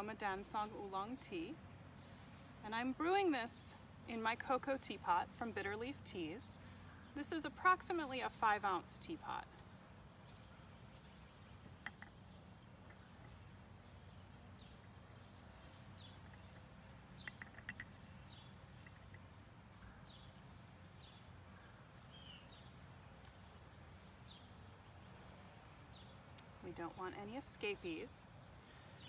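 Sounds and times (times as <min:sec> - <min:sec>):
small birds chirping: 0:00.0 - 0:02.9, 0:04.9 - 0:29.0
low steady hum: 0:00.0 - 0:29.0.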